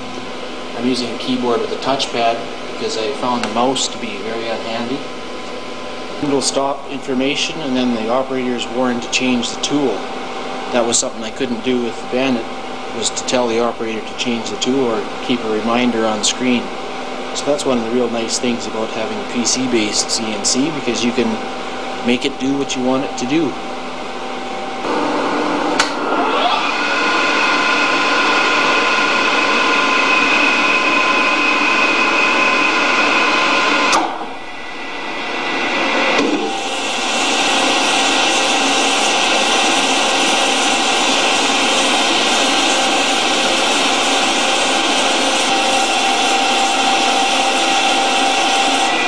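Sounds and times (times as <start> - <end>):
lathe motor whine: 0.0 - 49.0
mechanical hum: 0.0 - 49.0.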